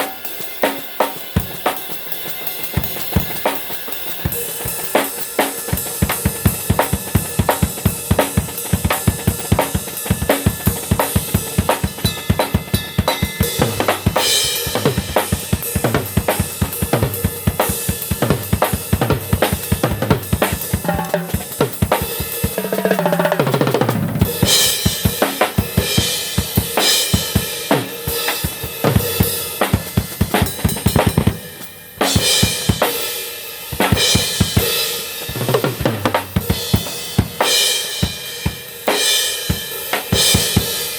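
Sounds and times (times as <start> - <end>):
cymbals: 0.0 - 40.9
drum kit beat: 0.0 - 40.9.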